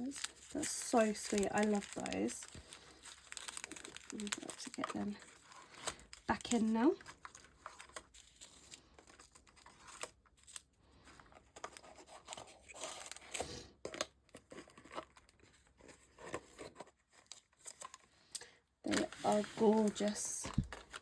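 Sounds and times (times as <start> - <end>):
rustling and crinkling packaging: 0.0 - 21.0.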